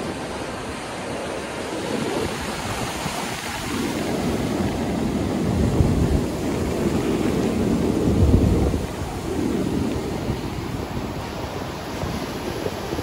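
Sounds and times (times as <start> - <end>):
surf waves breaking: 0.0 - 13.0.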